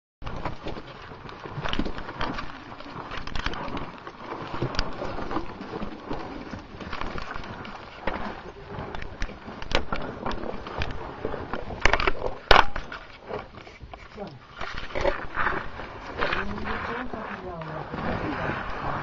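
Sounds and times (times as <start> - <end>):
clothing and gear rustling: 0.2 - 19.0.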